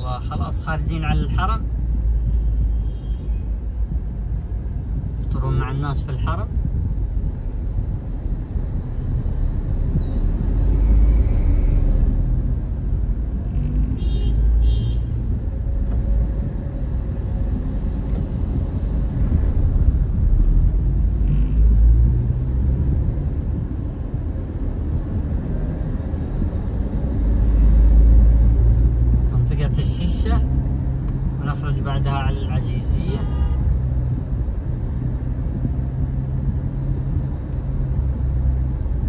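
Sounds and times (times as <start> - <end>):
car engine and road rumble: 0.0 - 39.0.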